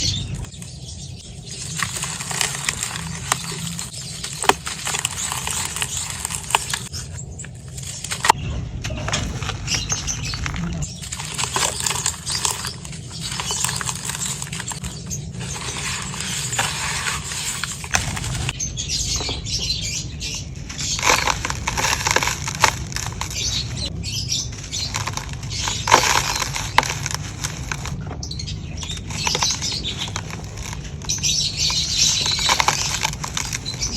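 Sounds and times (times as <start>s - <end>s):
charcoal crumbling: 0.1s - 18.6s, 20.6s - 33.9s.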